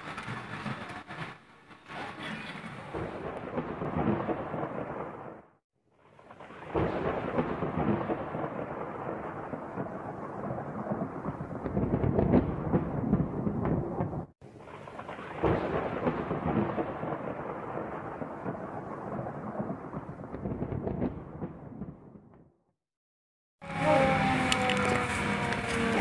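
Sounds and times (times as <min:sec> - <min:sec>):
thunder crack and rumble: 0:00.0 - 0:22.5.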